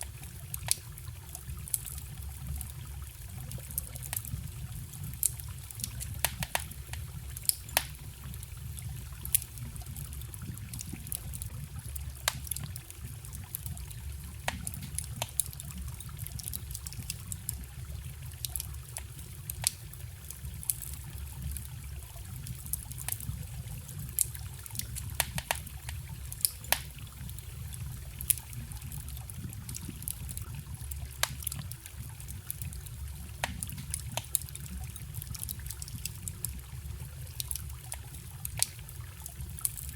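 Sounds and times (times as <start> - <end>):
stream trickling: 0.0 - 39.9
wood fire crackling: 0.0 - 39.9.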